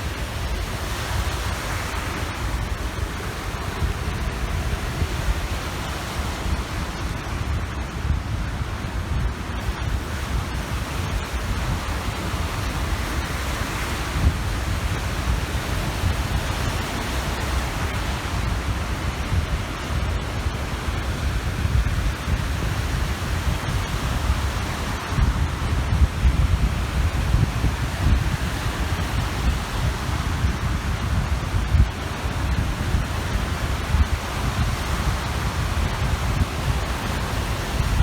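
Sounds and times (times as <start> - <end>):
waves washing onto shore: 0.0 - 38.0
wind buffeting microphone: 0.0 - 38.0.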